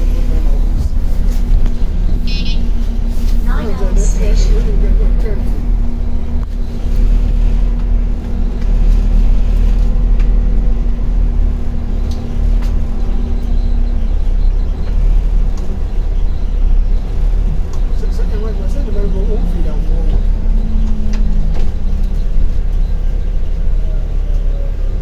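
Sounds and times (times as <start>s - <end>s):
bus rumble inside cabin: 0.0s - 25.0s
steady hum: 0.0s - 25.0s.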